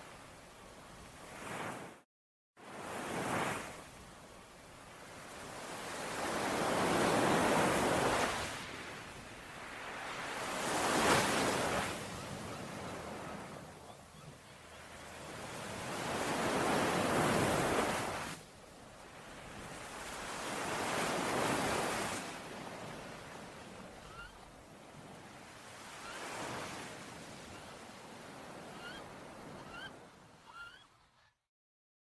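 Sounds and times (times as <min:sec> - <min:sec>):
ocean waves washing ashore: 0:02.6 - 0:30.4.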